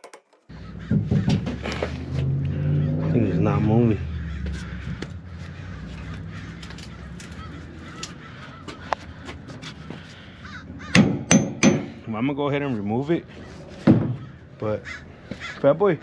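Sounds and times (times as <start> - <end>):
crow cawing: 0.5 - 1.8, 2.5 - 11.4, 13.3 - 16.0.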